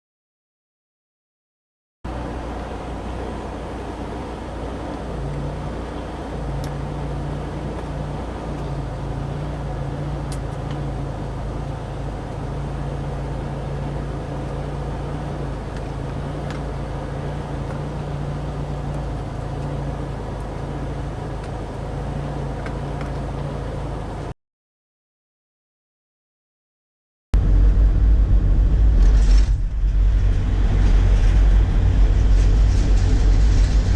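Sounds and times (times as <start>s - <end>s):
engine and road rumble: 2.0s - 24.4s, 27.4s - 33.9s
low hum: 2.1s - 24.3s, 27.4s - 33.9s.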